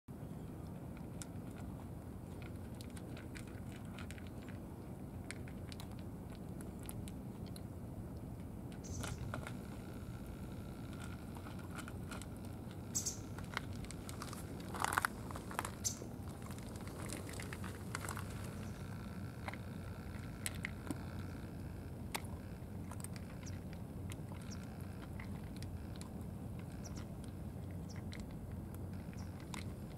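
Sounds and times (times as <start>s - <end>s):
low background rumble: 0.1s - 29.9s
cats crunching food: 0.2s - 29.9s.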